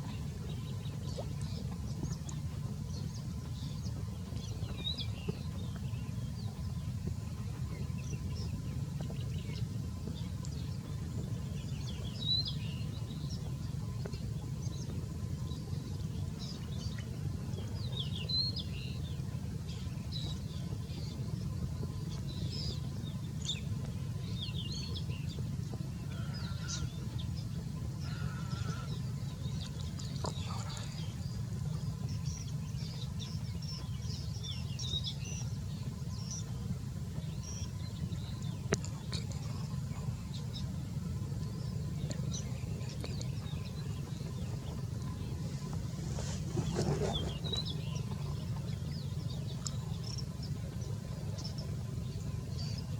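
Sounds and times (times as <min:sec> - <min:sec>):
small birds chirping: 0:00.0 - 0:52.9
steady low rumble: 0:00.0 - 0:52.9.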